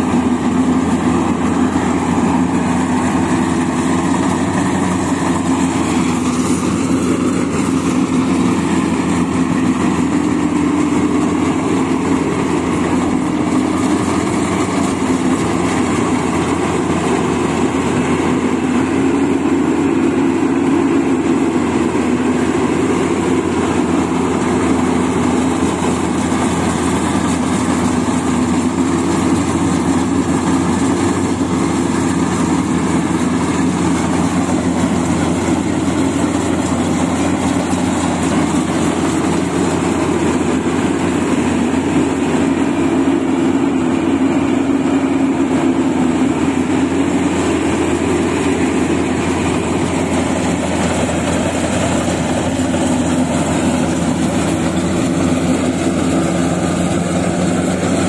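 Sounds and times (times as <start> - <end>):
harvester engine running: 0.0 - 58.0.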